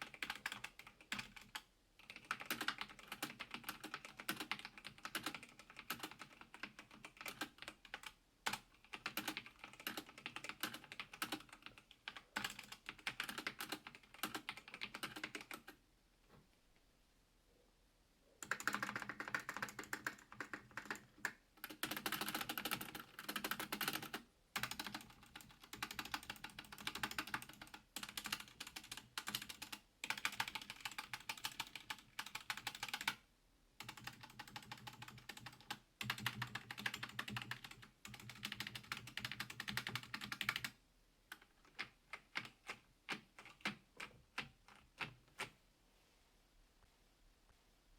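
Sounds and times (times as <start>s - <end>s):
mechanical keyboard typing: 0.0s - 15.8s, 18.4s - 33.2s, 33.8s - 45.6s.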